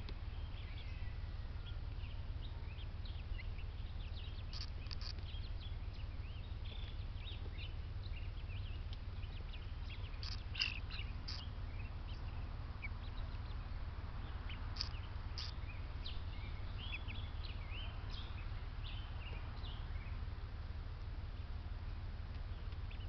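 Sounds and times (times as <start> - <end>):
birds chirping and calling: 0.0 - 20.3, 22.3 - 23.0
steady low rumble: 0.0 - 23.0.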